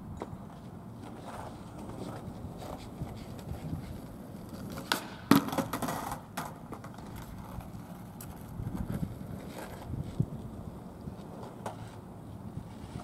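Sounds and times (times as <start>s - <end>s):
skateboard wheels rolling on asphalt: 0.0s - 13.0s
skateboard clacking on ground: 0.1s - 13.0s.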